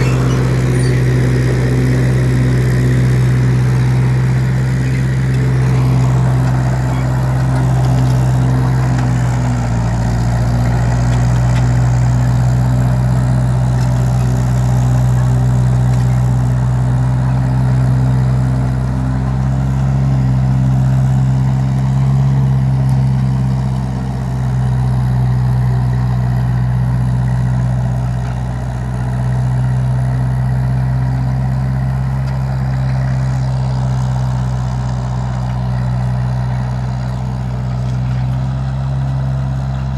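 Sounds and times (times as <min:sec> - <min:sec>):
crawler loader engine droning: 0:00.0 - 0:39.9.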